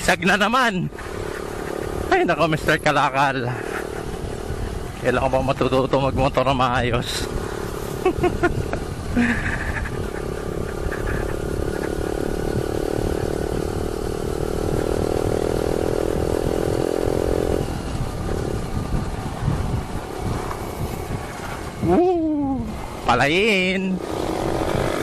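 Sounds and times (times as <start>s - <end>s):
motorcycle engine running: 0.0s - 25.0s
wind and road rush: 0.0s - 25.0s.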